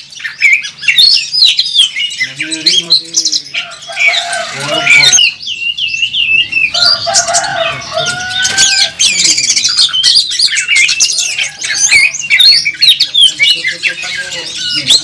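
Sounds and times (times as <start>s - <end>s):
bird chirps and trills: 0.0s - 15.0s.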